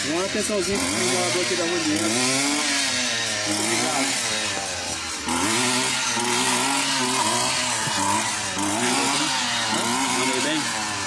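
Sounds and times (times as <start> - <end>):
brushcutter cutting grass: 0.0 - 11.0.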